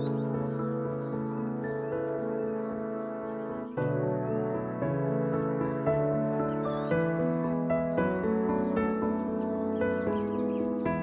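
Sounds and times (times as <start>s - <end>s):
bird chirp: 0.0s - 11.0s
calm instrumental music: 0.0s - 11.0s.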